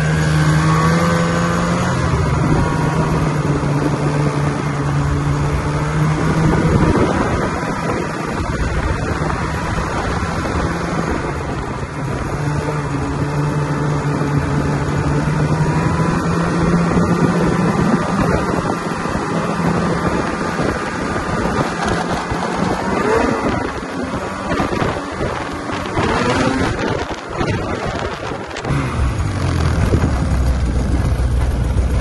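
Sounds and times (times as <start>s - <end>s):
snowmobile engine cruising: 0.0s - 32.0s
wind noise on microphone: 0.0s - 32.0s.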